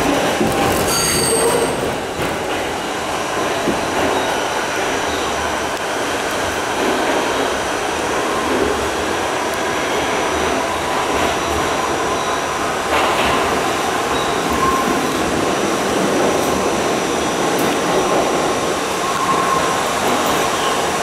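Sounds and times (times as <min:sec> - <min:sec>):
subway wheels rumbling on rails: 0:00.0 - 0:21.0.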